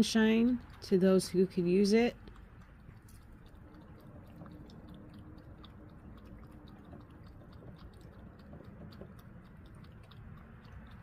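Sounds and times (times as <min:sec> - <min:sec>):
cat chewing: 0:00.0 - 0:11.0.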